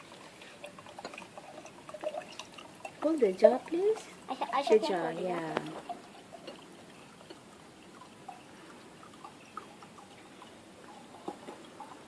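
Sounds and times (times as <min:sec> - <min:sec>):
liquid trickling into a jar: 0:00.0 - 0:12.0.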